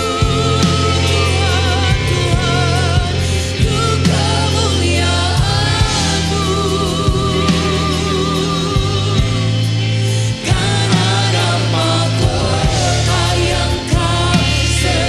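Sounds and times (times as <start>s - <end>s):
singers holding long notes: 0.0s - 15.0s
sustained low chords: 0.0s - 15.0s.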